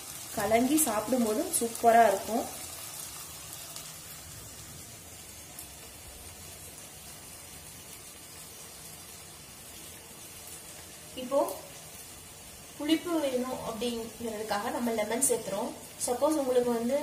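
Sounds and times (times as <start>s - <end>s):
masala sizzling in a pan: 0.0s - 17.0s.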